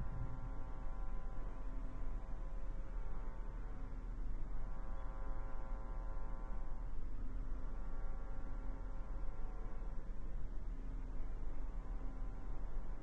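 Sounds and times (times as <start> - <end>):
low buzzing hum: 0.0 - 13.0.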